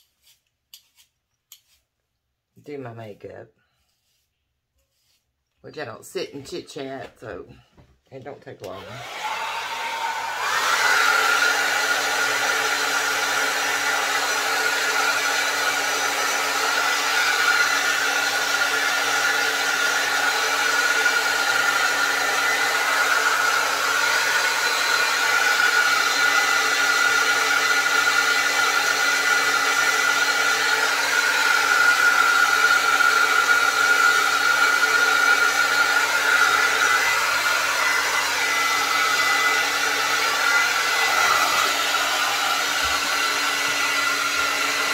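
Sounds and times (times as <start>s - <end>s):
hair dryer running: 8.6s - 44.9s.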